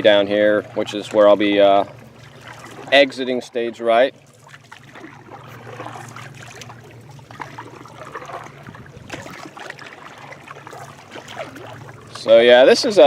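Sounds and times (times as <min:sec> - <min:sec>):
canoe paddles splashing in water: 0:00.0 - 0:13.0
low steady hum: 0:00.0 - 0:13.0.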